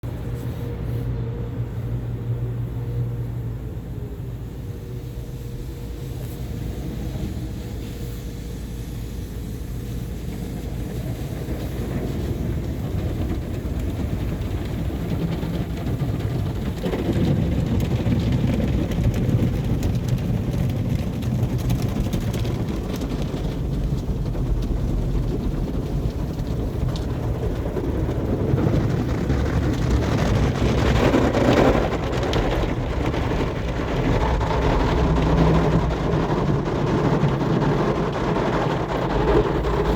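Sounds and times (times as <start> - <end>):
car wash machinery rumble: 0.0 - 39.9.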